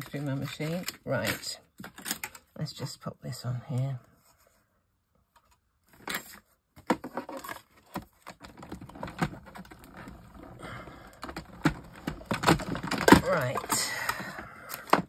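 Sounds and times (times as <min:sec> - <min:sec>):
plastic plates clicking and scraping: 0:00.0 - 0:02.5, 0:05.4 - 0:15.0.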